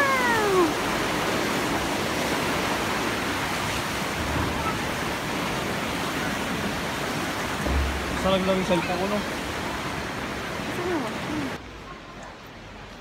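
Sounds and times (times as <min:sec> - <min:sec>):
creek rushing over rocks: 0:00.0 - 0:11.8.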